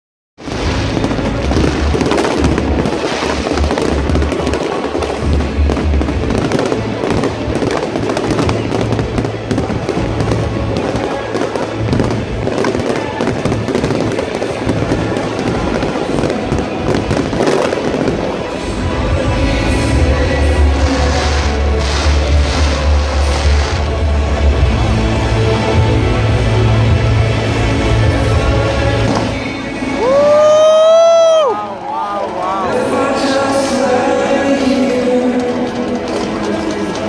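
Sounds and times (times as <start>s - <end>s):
fireworks bursting and crackling: 0.4s - 31.6s, 32.9s - 37.0s
music playing: 0.4s - 37.0s.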